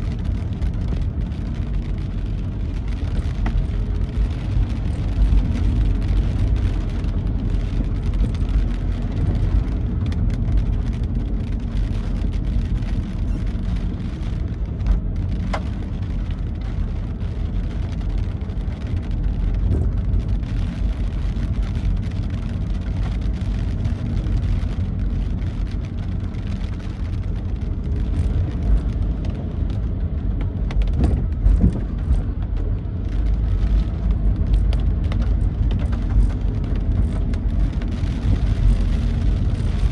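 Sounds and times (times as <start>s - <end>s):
rain and tyre spray hiss: 0.0s - 39.9s
vehicle engine and road noise: 0.0s - 39.9s.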